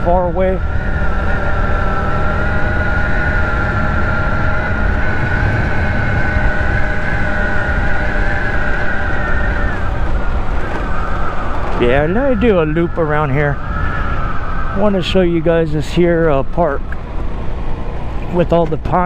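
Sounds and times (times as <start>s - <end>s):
scooter engine running: 0.0s - 15.4s.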